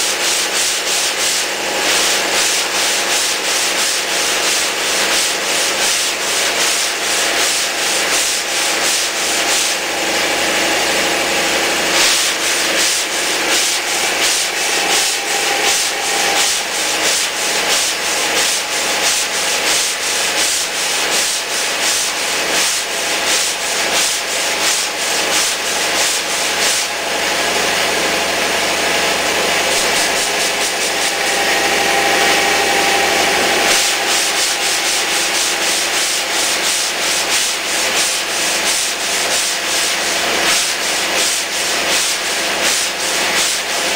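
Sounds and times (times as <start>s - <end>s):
sanding block rubbing on filler: 0.0s - 27.9s, 29.2s - 43.9s.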